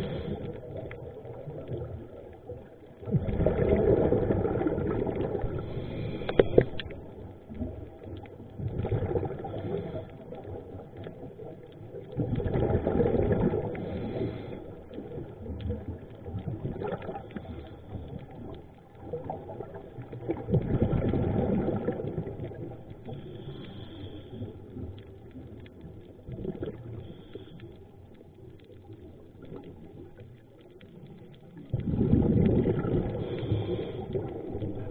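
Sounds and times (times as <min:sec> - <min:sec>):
scuba regulator bubbling exhaust: 0:00.0 - 0:34.9
underwater background: 0:00.0 - 0:34.9.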